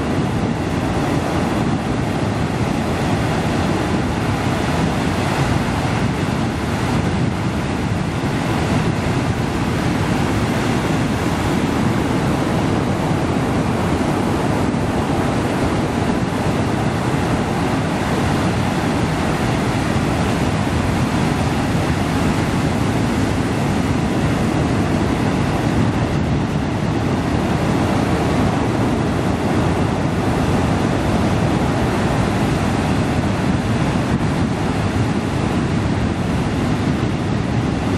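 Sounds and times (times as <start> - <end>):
ocean surf rushing over rock: 0.0 - 37.9.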